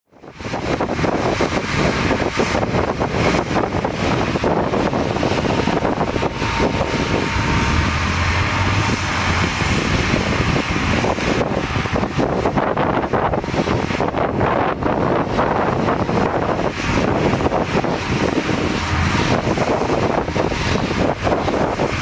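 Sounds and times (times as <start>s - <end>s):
diesel engine and hydraulics: 0.1s - 22.0s
thin steady whine: 0.2s - 22.0s.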